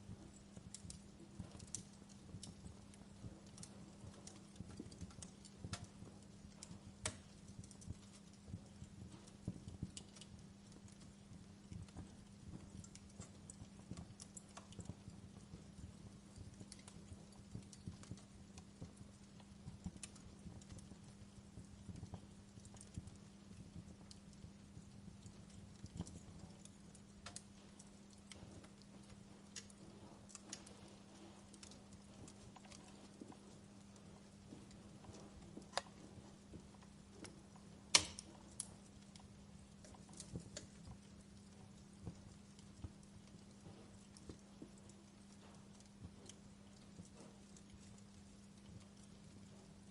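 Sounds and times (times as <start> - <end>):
steady low hum: 0.0 - 49.9
wood fire crackling: 0.0 - 49.9.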